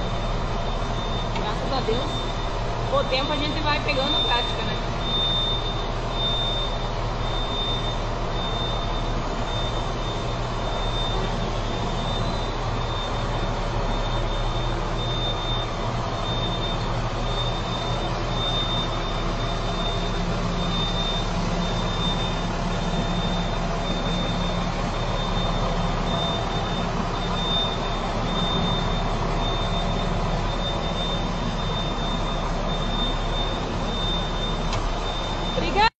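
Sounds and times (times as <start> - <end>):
diesel truck engine running: 0.0 - 35.9.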